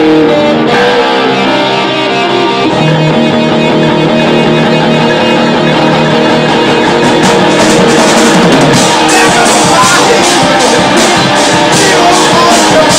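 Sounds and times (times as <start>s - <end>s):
rock band playing loud: 0.0s - 12.9s.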